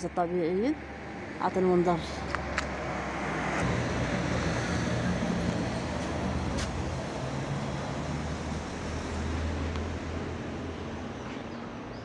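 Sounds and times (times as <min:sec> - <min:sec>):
road noise rushing: 0:00.0 - 0:11.9.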